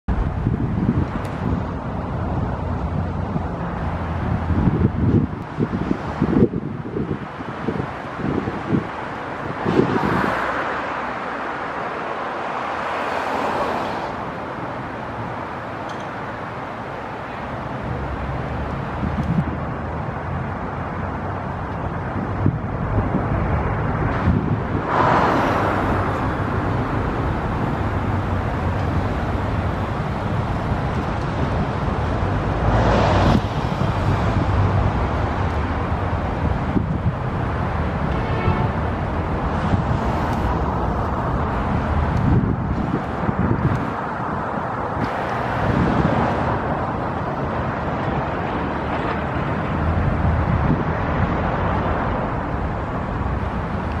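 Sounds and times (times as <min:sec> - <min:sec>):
traffic noise: 0:00.0 - 0:54.0
urban background rumble: 0:00.0 - 0:54.0
wind on microphone: 0:00.1 - 0:12.6, 0:17.6 - 0:54.0.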